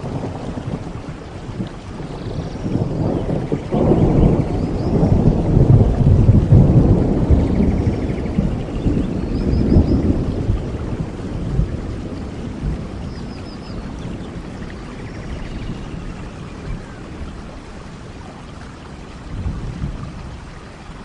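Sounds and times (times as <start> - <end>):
low rumble of thunder: 0.0 - 21.0
rain falling: 0.0 - 21.0.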